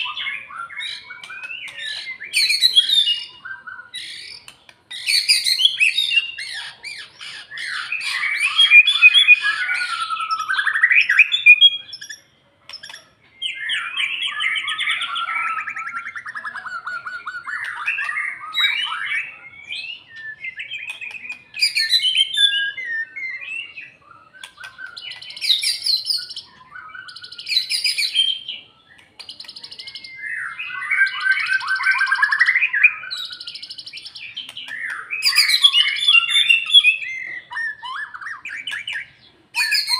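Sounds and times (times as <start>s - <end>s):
bird singing whistles and rattles: 0.0s - 39.9s.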